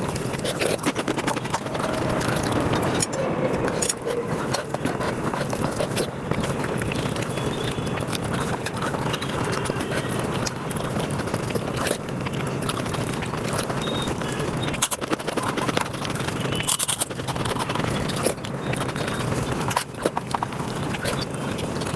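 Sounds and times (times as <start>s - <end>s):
sped-up chewing and smacking: 0.0s - 21.9s.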